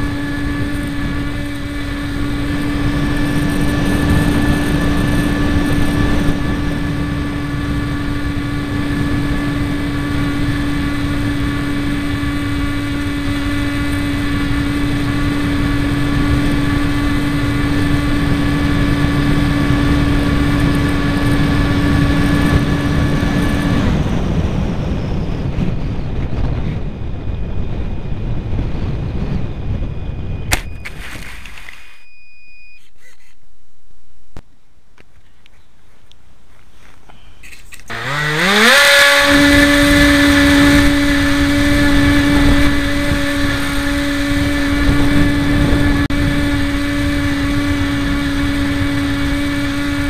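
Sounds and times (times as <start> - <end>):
electric motor and propeller: 0.0 - 32.1, 37.2 - 50.0.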